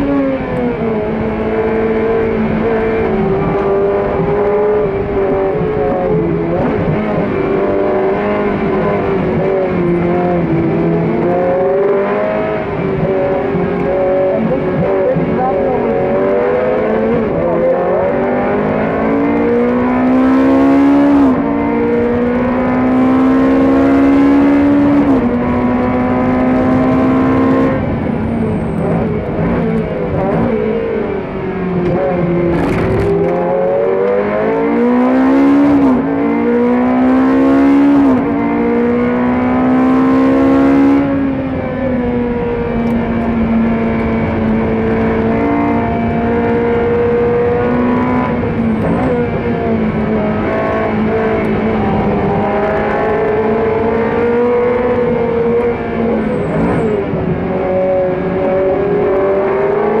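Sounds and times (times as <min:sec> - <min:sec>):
race car engine revving: 0:00.0 - 1:00.0.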